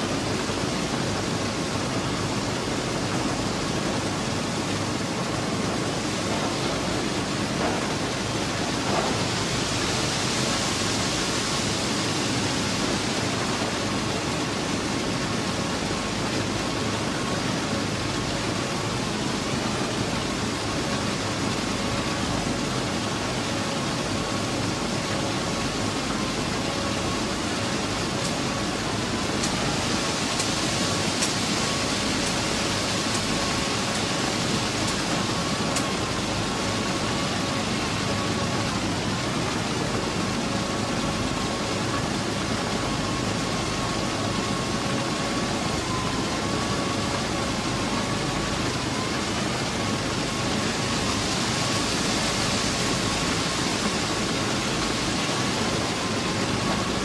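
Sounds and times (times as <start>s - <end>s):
steady machine whine: 0.0s - 57.0s.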